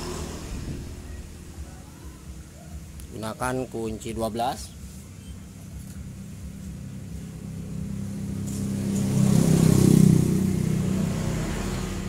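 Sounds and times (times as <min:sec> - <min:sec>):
vehicle engine passing by: 0:00.0 - 0:02.6, 0:04.8 - 0:12.0.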